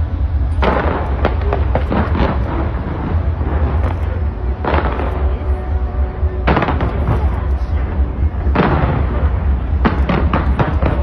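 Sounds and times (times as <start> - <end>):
steady low rumble: 0.0 - 11.0
fireworks sharp bangs: 0.4 - 11.0.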